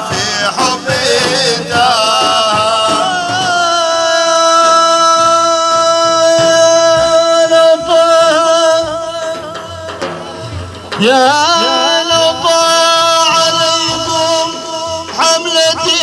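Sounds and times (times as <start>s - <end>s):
man singing a long note: 0.0s - 16.0s.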